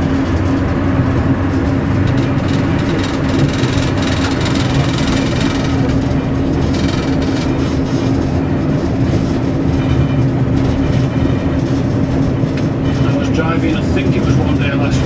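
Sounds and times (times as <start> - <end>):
diesel engine drone: 0.0 - 15.0
wheel and rail rumble: 0.0 - 15.0.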